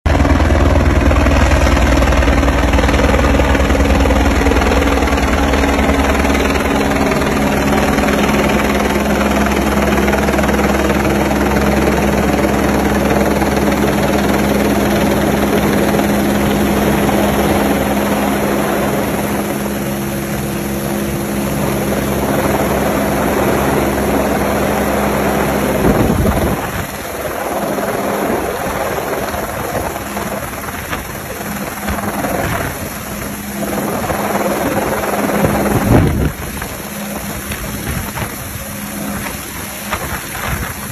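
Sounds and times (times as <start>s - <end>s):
helicopter hovering overhead: 0.0s - 40.9s.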